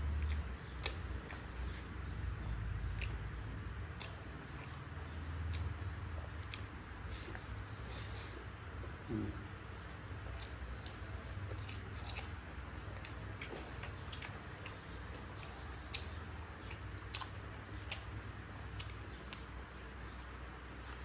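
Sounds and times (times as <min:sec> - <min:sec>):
low steady hum: 0:00.0 - 0:21.0
person chewing food: 0:00.0 - 0:21.0.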